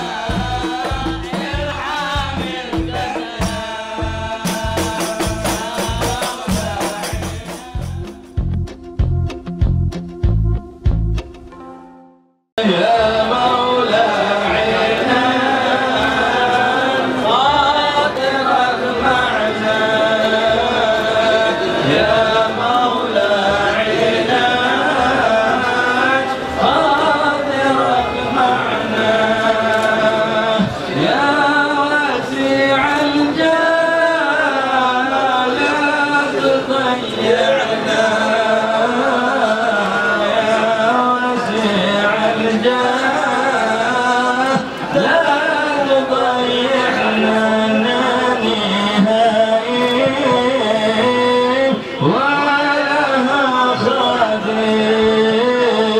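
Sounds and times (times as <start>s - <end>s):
men chanting in unison: 0.0s - 8.2s, 12.6s - 55.9s.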